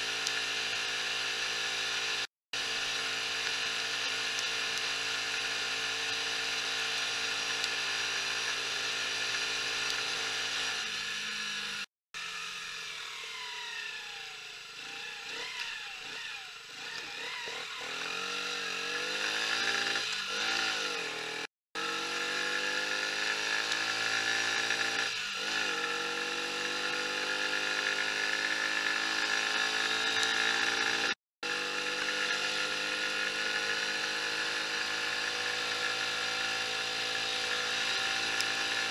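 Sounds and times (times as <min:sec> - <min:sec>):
small motorcycle engine: 0:00.0 - 0:38.9.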